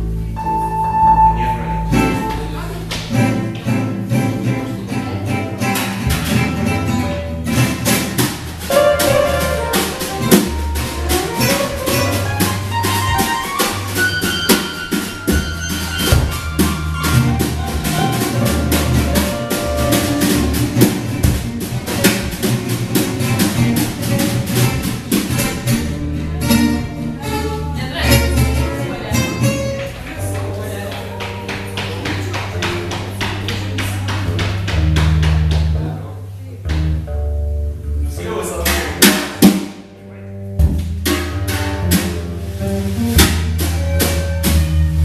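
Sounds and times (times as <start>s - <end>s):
bass line: 0.0s - 45.0s
guitar: 0.0s - 45.0s
drum kit beat: 0.4s - 4.7s, 5.3s - 35.8s, 38.6s - 39.9s, 40.5s - 45.0s.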